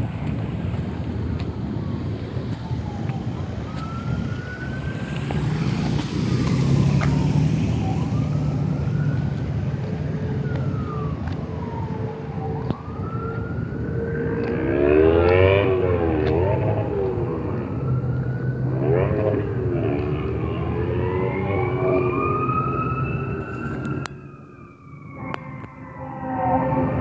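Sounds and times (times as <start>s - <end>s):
emergency siren wailing: 0.0s - 27.0s.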